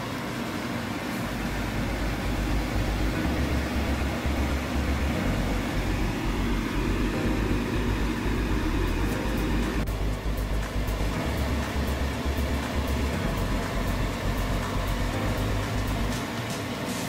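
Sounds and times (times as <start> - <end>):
vent fan whirring: 0.0 - 17.0
low rumble: 1.2 - 16.2.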